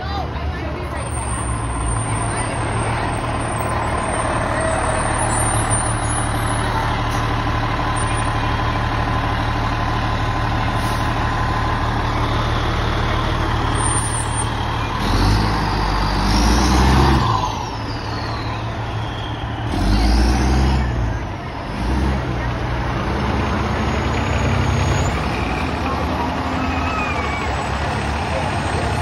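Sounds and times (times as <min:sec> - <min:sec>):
fire engine diesel engine revving: 0:00.2 - 0:29.0.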